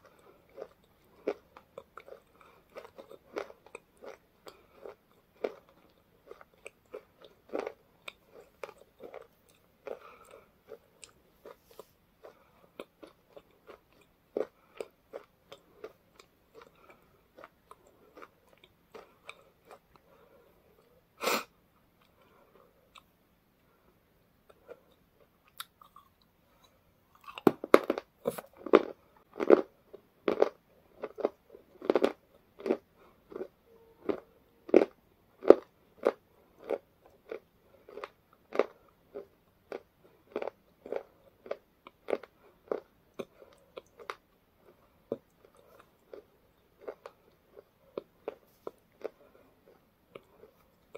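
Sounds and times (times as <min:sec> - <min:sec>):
person chewing crisp snack: 0:00.0 - 0:21.0, 0:24.4 - 0:50.9.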